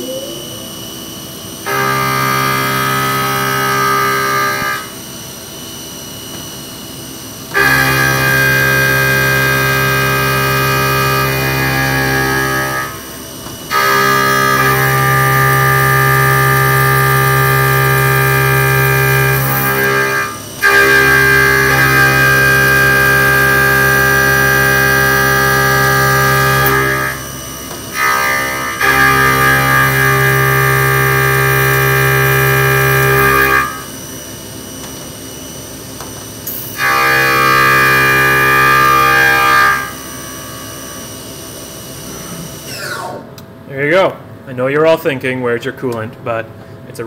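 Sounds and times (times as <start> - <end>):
mill cutting metal tone: 0.0 - 43.4
machine spindle hum: 0.0 - 43.6.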